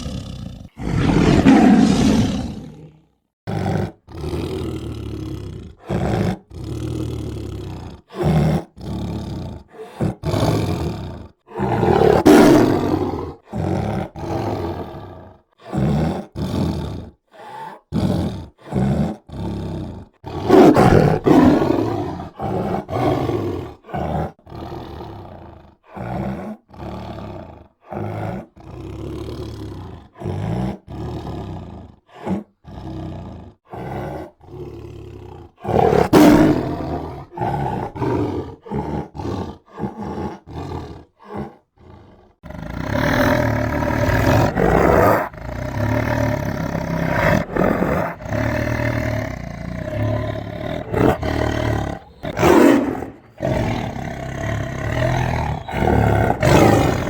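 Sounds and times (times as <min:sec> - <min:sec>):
tiger roaring and growling: 0:00.0 - 0:57.0.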